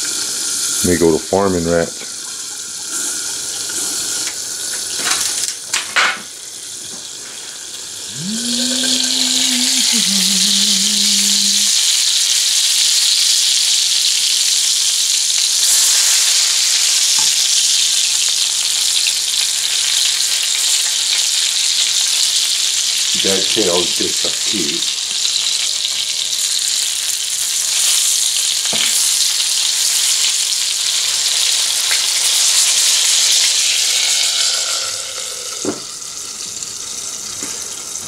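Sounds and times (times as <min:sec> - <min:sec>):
meat sizzling in grease: 0:00.0 - 0:38.0.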